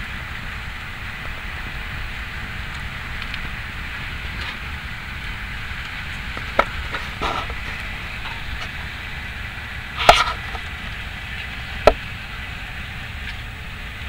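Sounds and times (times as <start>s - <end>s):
train rumble and air rush: 0.0s - 14.0s.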